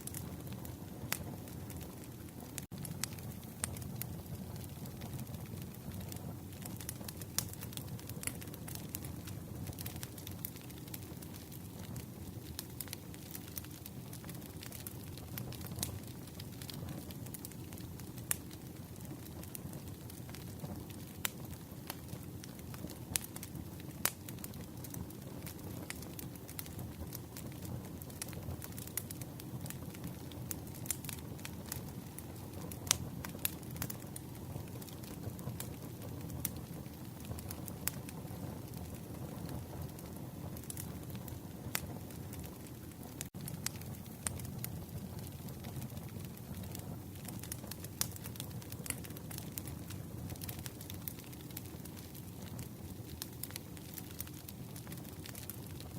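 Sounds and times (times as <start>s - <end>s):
campfire flames rumbling: 0.0s - 55.9s
fire crackling and popping: 0.0s - 55.9s.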